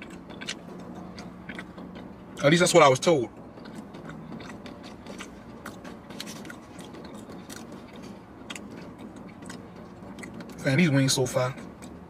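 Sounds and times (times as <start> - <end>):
person chewing food: 0.0 - 2.4, 3.3 - 10.6.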